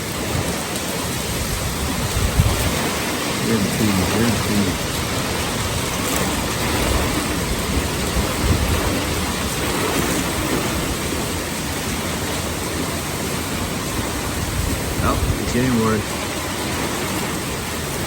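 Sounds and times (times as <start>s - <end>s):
heavy rain: 0.0s - 18.0s
hurricane wind gusts: 0.0s - 18.0s.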